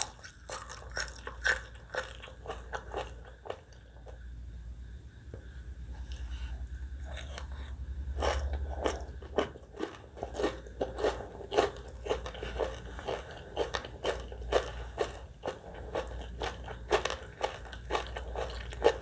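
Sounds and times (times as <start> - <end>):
crisp chewing crunches: 0.0 - 3.9, 6.0 - 19.0.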